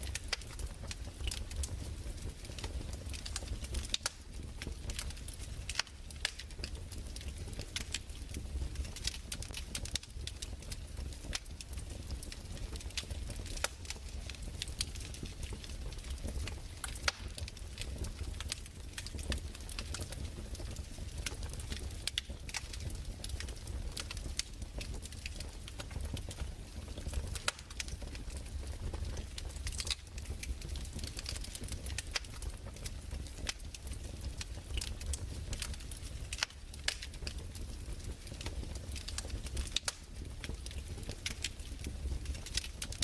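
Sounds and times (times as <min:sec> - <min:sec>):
burning wood popping and snapping: 0:00.0 - 0:43.0.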